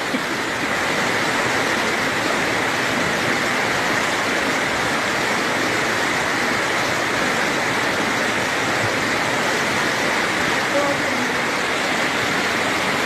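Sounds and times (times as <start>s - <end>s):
floodwater rushing down road: 0.0s - 13.0s.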